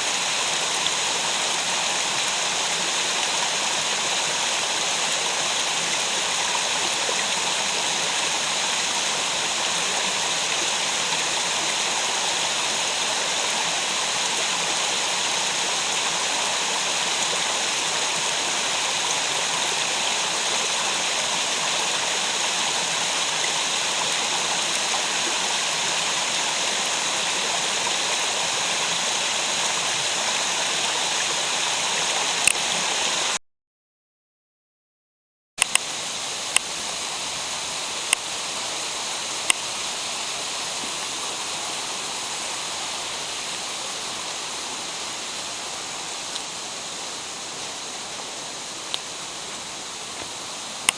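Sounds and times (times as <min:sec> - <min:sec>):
stream water rushing: 0:00.0 - 0:33.4, 0:35.6 - 0:50.9.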